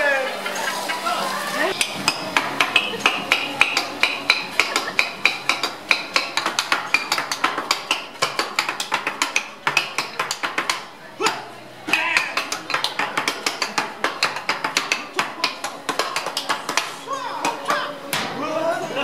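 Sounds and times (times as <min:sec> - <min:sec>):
metal utensils drumming on griddle: 0:00.0 - 0:11.0, 0:11.9 - 0:19.0.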